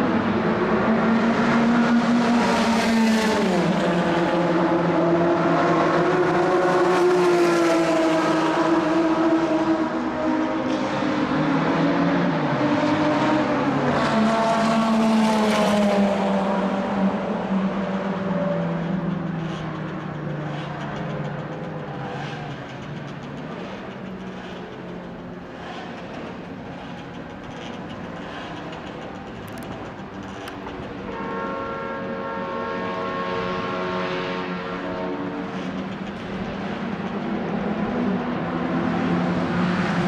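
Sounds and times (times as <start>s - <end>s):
racing car engines passing: 0.0s - 40.0s.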